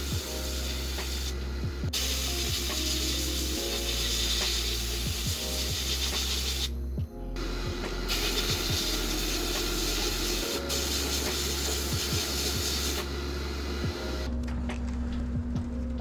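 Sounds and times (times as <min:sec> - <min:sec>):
sandblasting air hiss: 0:00.0 - 0:06.8, 0:07.4 - 0:14.3.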